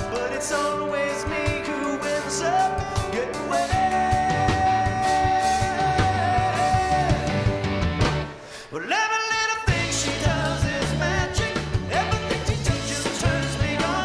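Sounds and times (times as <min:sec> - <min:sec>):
male lead vocal: 0:00.0 - 0:07.8, 0:08.6 - 0:14.0
live rock band playing: 0:00.0 - 0:08.6, 0:09.6 - 0:14.0.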